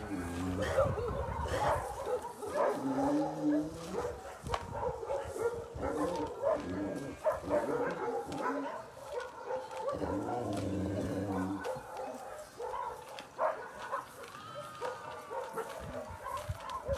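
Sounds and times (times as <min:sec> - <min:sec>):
dogs barking: 0:00.0 - 0:16.9.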